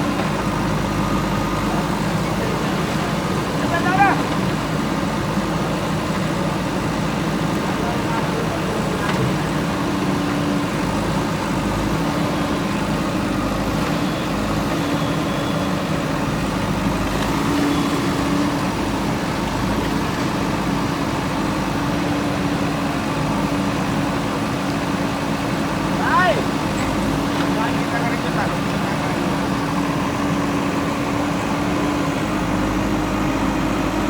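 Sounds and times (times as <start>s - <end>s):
backhoe engine running: 0.0s - 34.0s.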